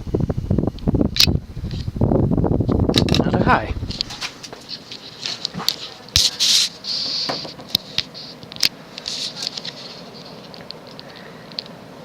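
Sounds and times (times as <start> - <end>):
ceiling fan air whooshing: 0.0 - 12.0.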